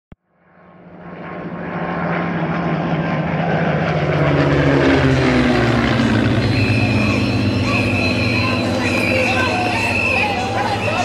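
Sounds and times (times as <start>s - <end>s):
low engine drone: 0.2s - 11.0s.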